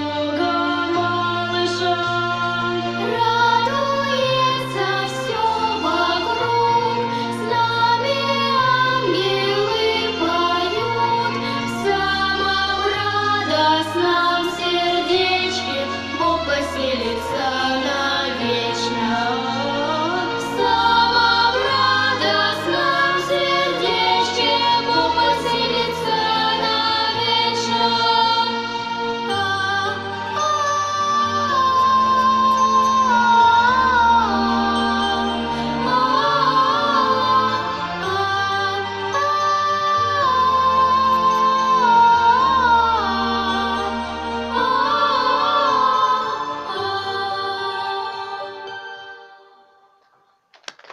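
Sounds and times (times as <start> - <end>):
girls singing lullaby: 0.0 - 49.0.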